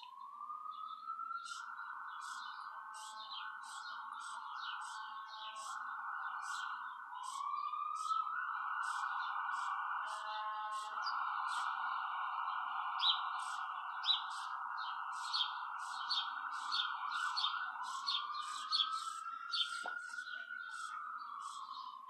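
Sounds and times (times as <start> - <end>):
bird chirping: 0.0 - 22.0
steady droning tone: 1.4 - 22.0.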